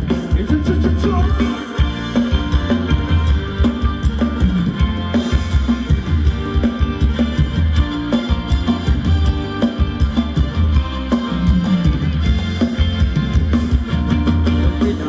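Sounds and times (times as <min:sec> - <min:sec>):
bass line: 0:00.0 - 0:15.0
drum kit beat: 0:00.0 - 0:15.0
live band dance music: 0:00.0 - 0:15.0.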